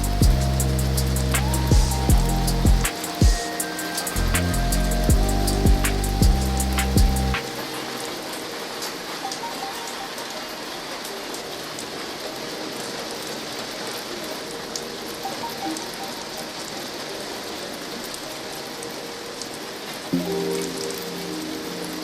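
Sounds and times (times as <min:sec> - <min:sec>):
rain pattering: 0:00.0 - 0:22.0
soft music with held notes: 0:00.0 - 0:22.0.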